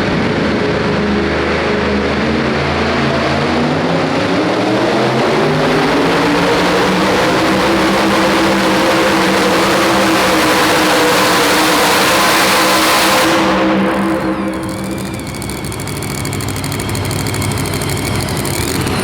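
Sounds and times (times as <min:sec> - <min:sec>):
truck engine at full throttle: 0:00.0 - 0:19.0.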